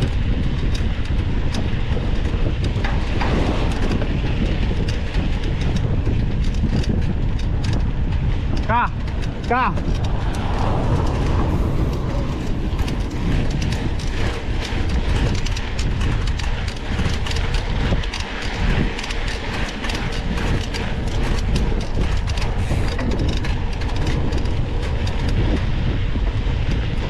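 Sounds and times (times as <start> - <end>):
mountain bike rattling on dirt: 0.0 - 27.0
wind rumble on microphone: 0.0 - 27.0.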